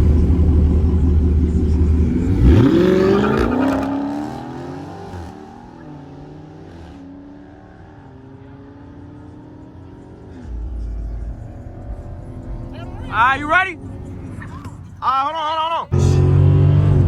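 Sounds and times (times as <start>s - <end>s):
car accelerating hard: 0.0s - 15.3s, 15.9s - 17.0s.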